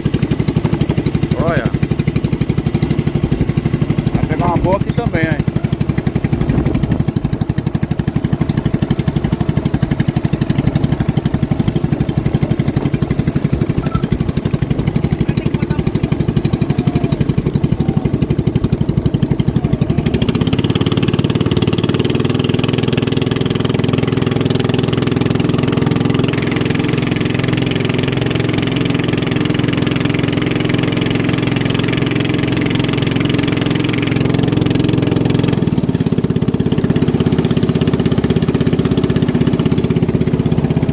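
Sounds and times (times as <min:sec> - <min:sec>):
racing motorboat engines droning: 0:00.0 - 0:40.9.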